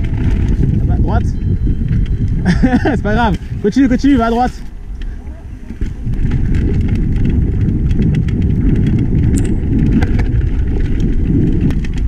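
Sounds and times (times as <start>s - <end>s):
bike clicks and rattles: 0.0s - 12.0s
wind rumble on microphone: 0.0s - 12.0s.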